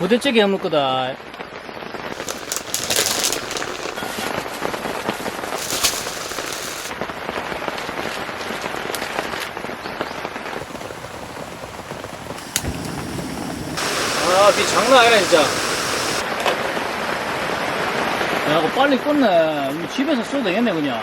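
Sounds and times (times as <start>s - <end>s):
heavy rain pattering: 2.0s - 21.0s.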